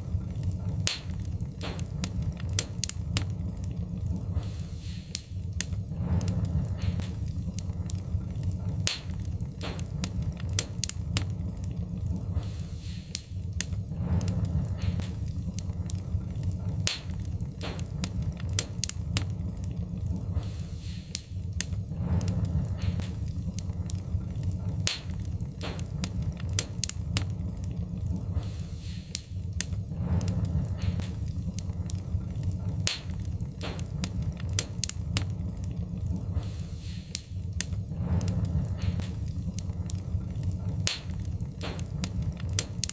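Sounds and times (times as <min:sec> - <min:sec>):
low rumble of fire: 0:00.0 - 0:42.9
wood fire crackling: 0:00.0 - 0:42.9.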